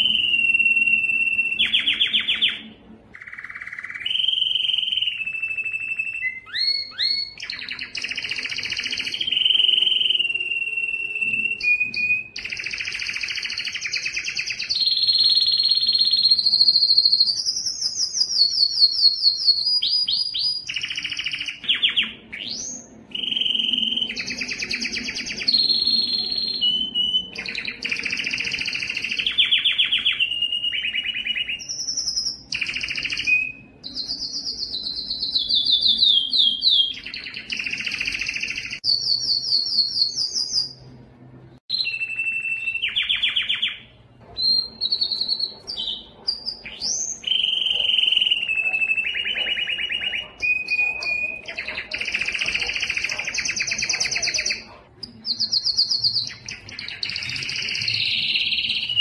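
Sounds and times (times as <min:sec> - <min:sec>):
canary singing trills: 0:00.0 - 0:41.0, 0:41.6 - 0:59.0.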